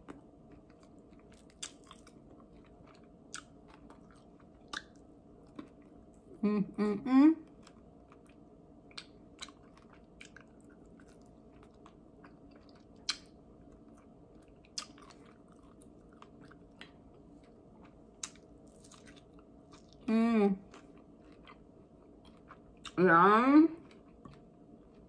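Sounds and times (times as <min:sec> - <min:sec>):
chewing chicken wings: 0:00.0 - 0:06.3, 0:07.4 - 0:23.0.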